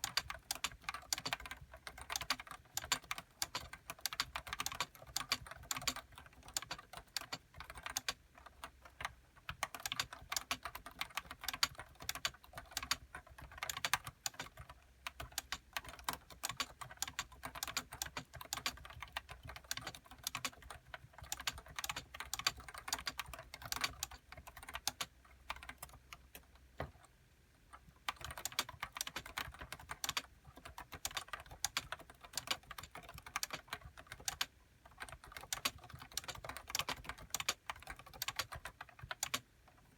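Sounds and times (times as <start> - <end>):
keyboard typing: 0.0 - 27.1, 27.7 - 39.9.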